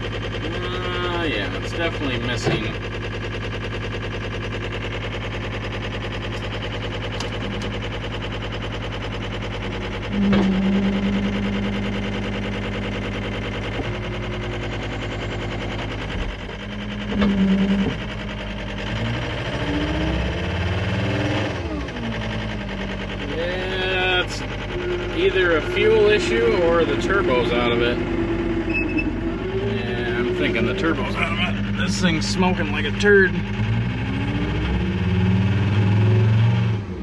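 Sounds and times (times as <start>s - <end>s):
loud steady drone: 0.0s - 2.8s, 5.8s - 37.0s
diesel engine running rough: 0.0s - 37.0s.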